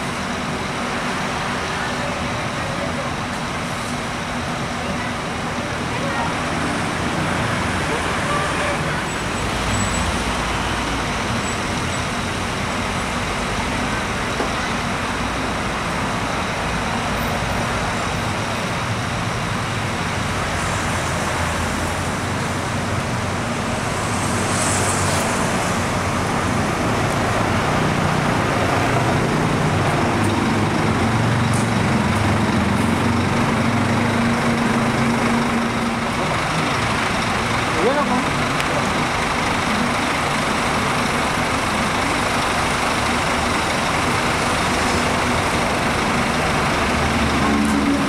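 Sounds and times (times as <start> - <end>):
diesel coach engines rumbling: 0.0 - 48.0.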